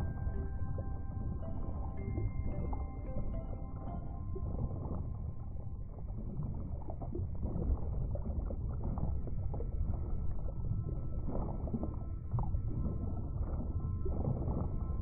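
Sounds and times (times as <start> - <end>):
underwater low rumble: 0.0 - 15.0.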